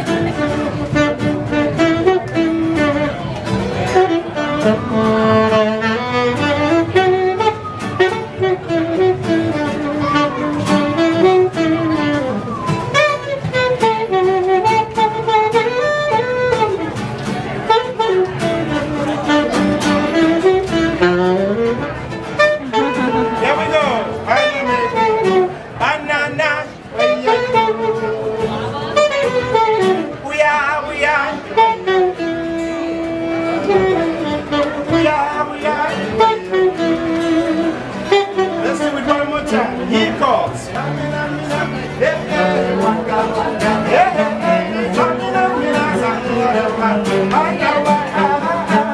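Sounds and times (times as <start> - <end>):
picked guitar: 0.0 - 48.9
saxophone melody: 0.0 - 48.9.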